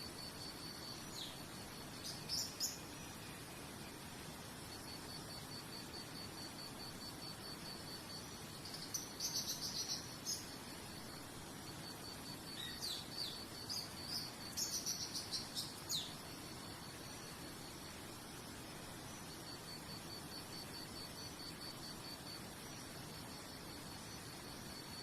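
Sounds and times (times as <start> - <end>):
cricket chirping: 0.0 - 25.0
low background hiss: 0.0 - 25.0.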